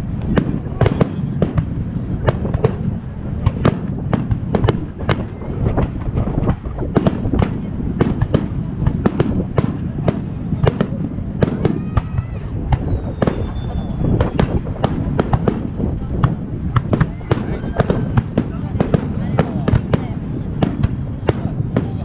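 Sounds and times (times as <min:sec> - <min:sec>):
continuous low rumble: 0:00.0 - 0:22.0
fireworks bursts and bangs: 0:00.0 - 0:22.0.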